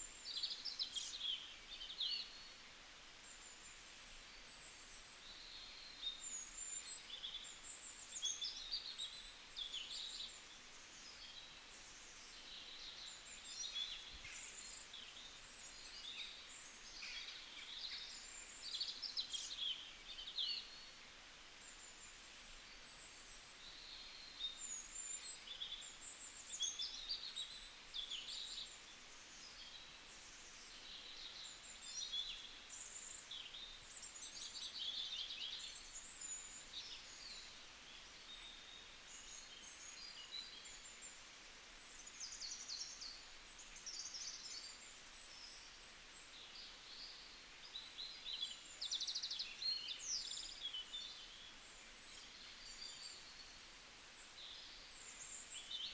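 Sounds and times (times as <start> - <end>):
faint forest ambience hiss: 0.0 - 55.9.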